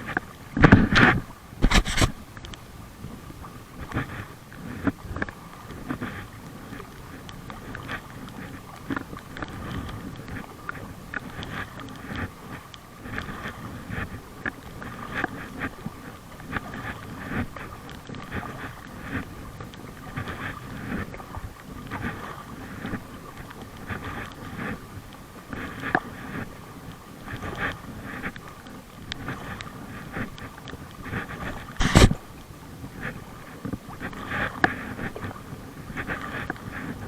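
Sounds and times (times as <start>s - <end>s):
water splashing from paddling: 0.0s - 37.0s.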